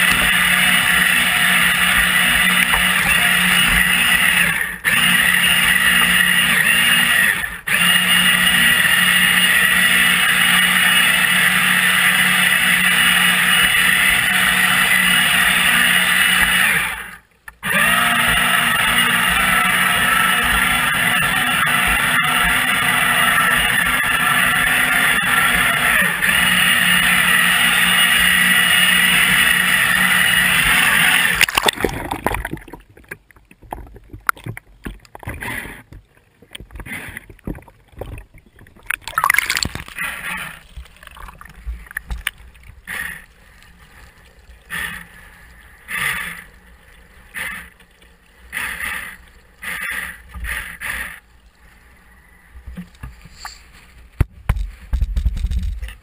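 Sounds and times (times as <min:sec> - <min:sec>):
water gurgling and sloshing: 0:00.0 - 0:56.0.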